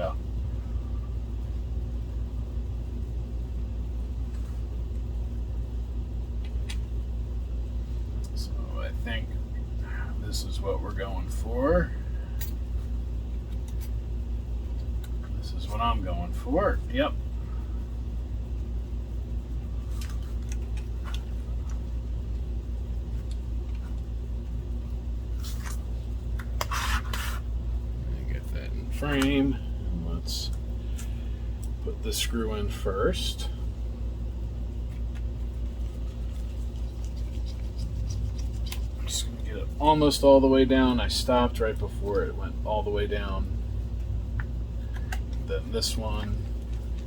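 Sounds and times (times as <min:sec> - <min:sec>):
low background hum: 0:00.0 - 0:47.0
low background rumble: 0:00.0 - 0:47.0.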